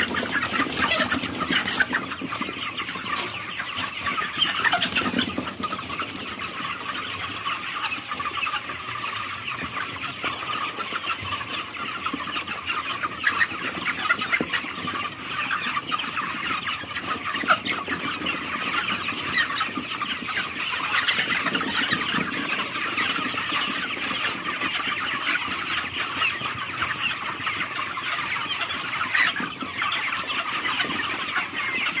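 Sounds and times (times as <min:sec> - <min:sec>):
chickens cheeping: 0:00.0 - 0:32.0.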